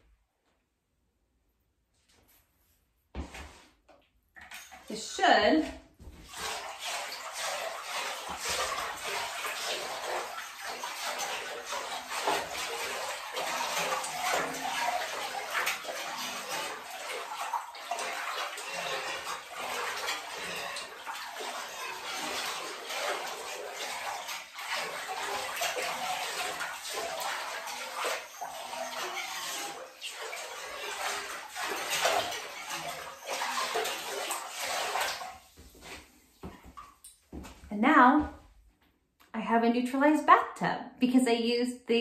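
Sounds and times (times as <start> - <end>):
bathtub water sloshing: 2.2 - 38.9.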